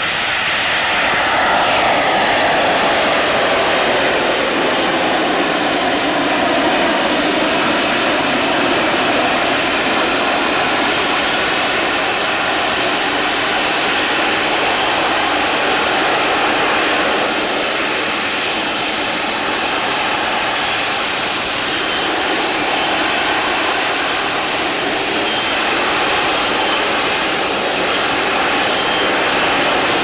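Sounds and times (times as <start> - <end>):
aircraft engine passing: 0.0 - 30.0.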